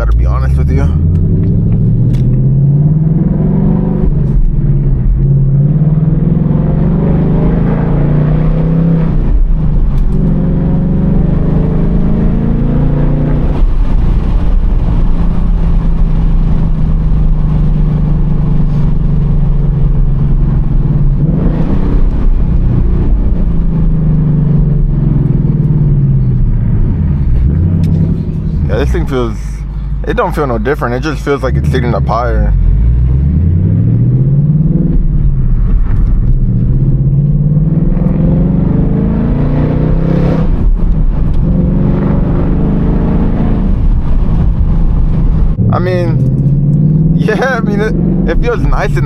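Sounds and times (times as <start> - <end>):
car engine revving through gears: 0.0 - 49.0.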